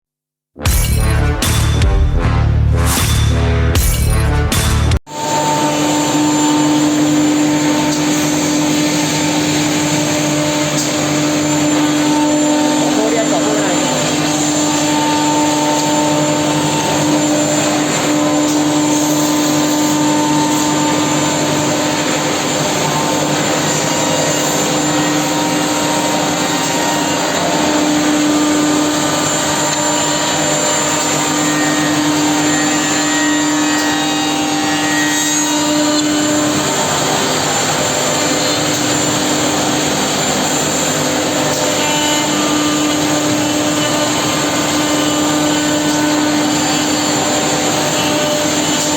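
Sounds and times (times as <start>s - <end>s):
machine whining tone: 0.6s - 48.9s.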